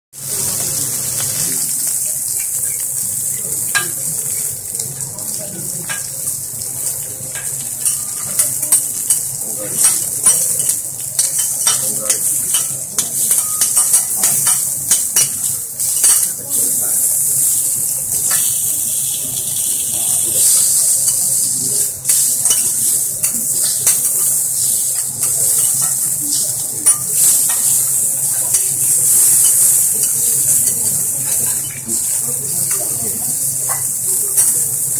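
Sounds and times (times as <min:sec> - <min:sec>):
meat sizzling on griddle: 0:00.2 - 0:34.9.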